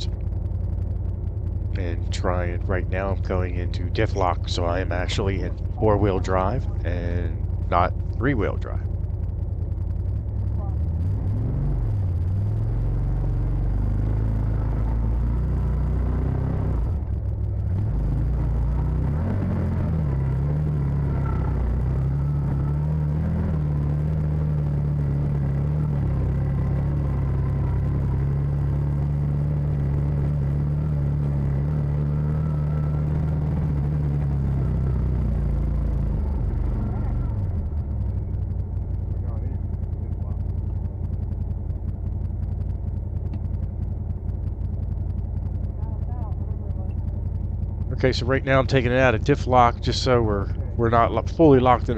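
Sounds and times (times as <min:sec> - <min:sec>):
engine running under load: 0:00.0 - 0:51.9.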